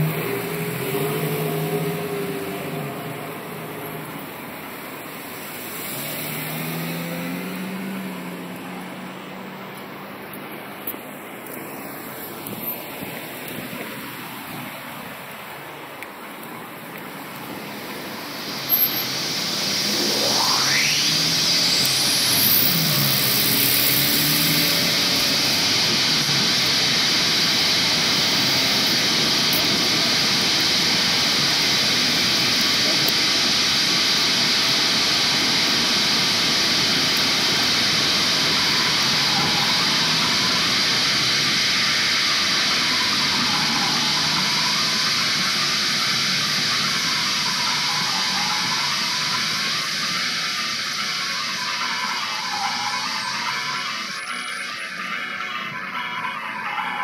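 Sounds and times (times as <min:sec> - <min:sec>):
electronic tone gliding: 0:00.0 - 0:12.8, 0:14.0 - 0:57.0
dense rushing noise: 0:00.0 - 0:54.7.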